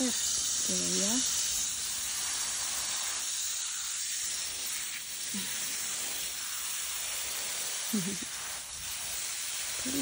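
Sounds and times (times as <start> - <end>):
garden hose spraying water: 0.0 - 10.0.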